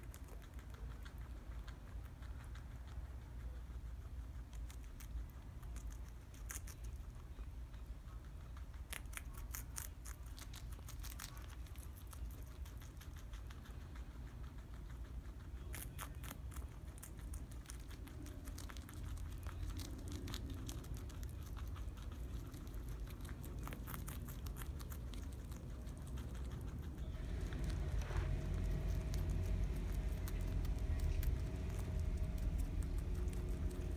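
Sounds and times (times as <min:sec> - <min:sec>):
guinea pigs chewing lettuce: 0:00.0 - 0:33.9
steady low rumble: 0:00.0 - 0:33.9.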